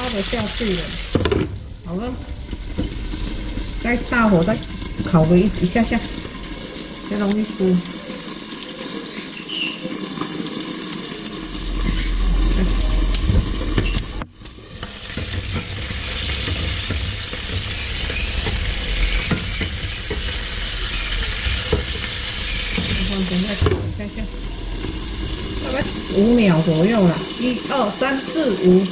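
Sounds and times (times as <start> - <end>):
fish sizzling in oil: 0.0 - 28.9.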